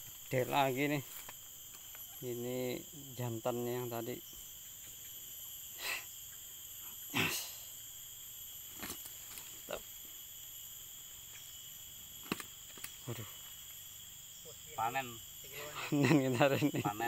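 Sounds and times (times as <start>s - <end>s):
insects shrilling: 0.0s - 17.0s.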